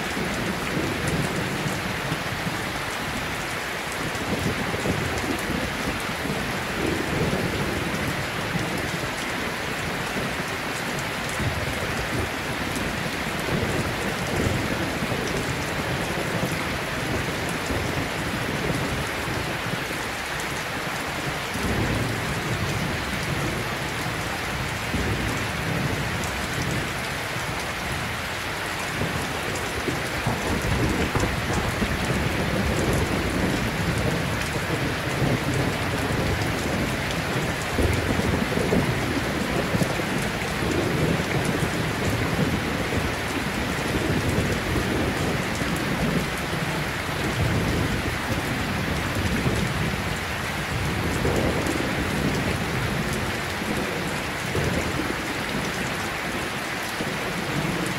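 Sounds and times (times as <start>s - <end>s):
rain-like rushing noise: 0.0s - 57.9s.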